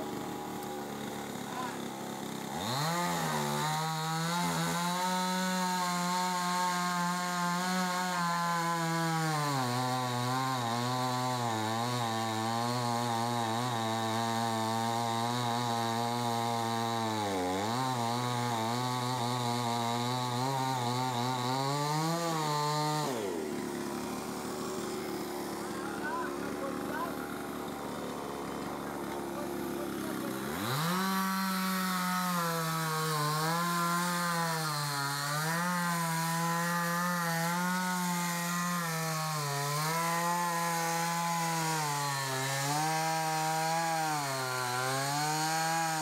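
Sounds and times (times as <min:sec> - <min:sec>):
chainsaw revving and cutting log: 0:00.0 - 0:46.0.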